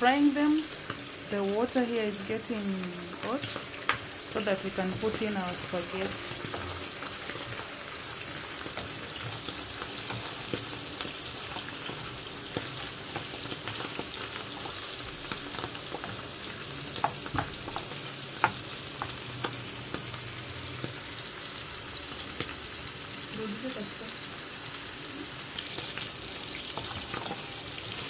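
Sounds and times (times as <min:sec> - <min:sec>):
mushrooms sizzling in hot oil: 0:00.0 - 0:28.0.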